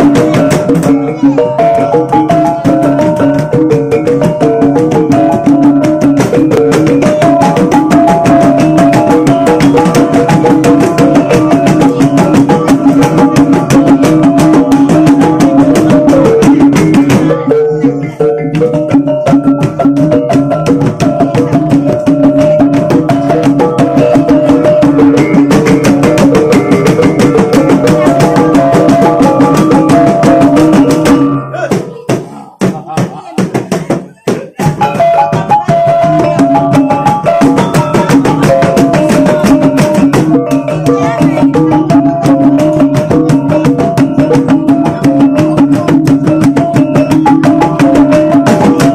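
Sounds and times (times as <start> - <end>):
drums beating: 0.0 - 48.9.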